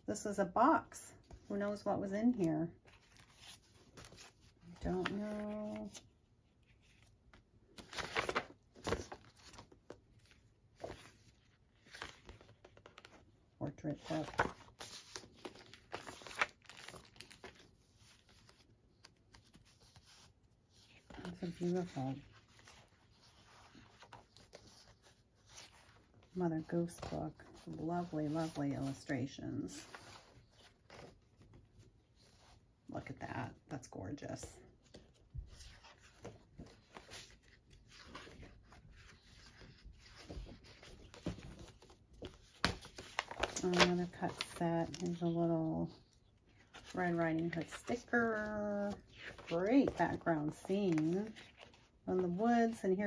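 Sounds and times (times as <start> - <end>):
book pages turning: 1.2 - 32.6, 34.7 - 52.8.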